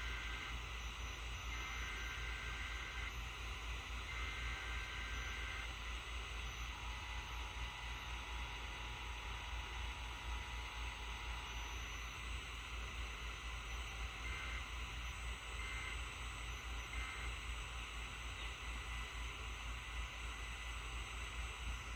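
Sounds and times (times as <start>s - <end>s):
radio static hiss and hum: 0.0s - 21.9s.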